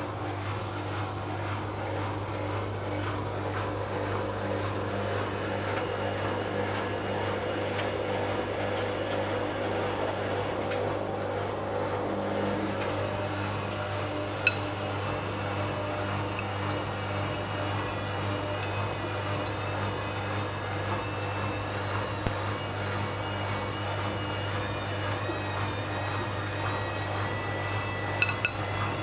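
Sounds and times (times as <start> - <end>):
washing machine spinning hum: 0.0 - 29.0.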